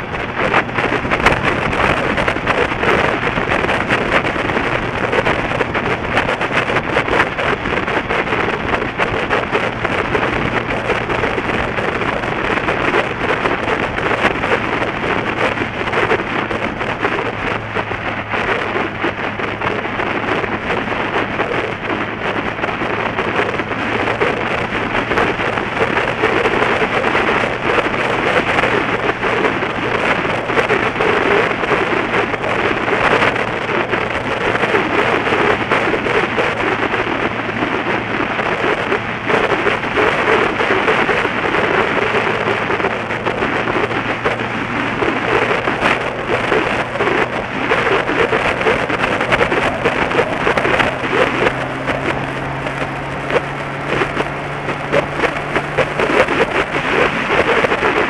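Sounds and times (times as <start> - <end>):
motorcycle engine: 0.0 - 58.0
wind buffeting microphone: 0.0 - 58.0.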